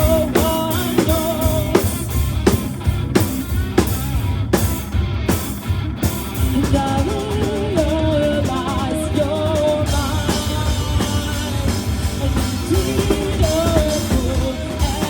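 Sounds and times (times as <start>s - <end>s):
drum kit beat: 0.0s - 15.0s
electric guitar riff: 0.0s - 15.0s.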